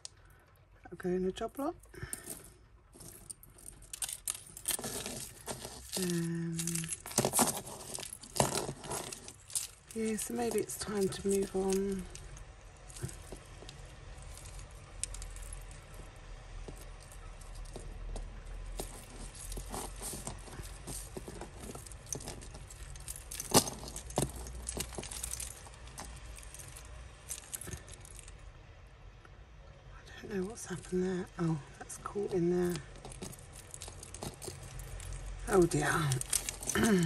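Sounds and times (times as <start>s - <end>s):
metal jewellery jingling: 2.0s - 28.4s, 32.0s - 37.0s.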